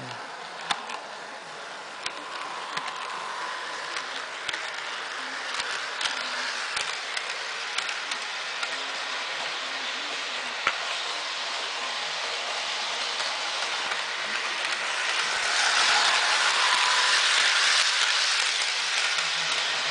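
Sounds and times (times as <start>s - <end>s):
model train motor hiss: 0.0s - 19.9s
wheels clicking on track: 1.9s - 19.9s.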